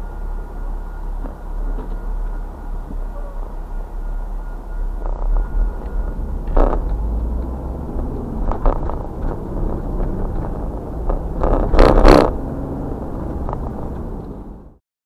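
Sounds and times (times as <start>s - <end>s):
car road noise rumble: 0.0s - 14.8s.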